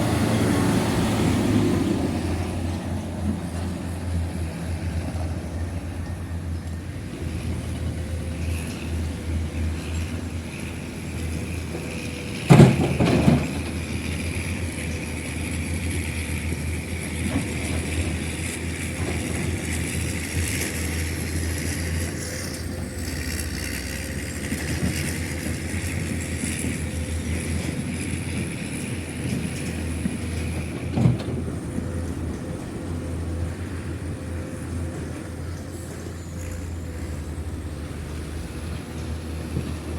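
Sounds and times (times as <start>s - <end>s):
construction machinery engine drone: 0.0s - 39.9s.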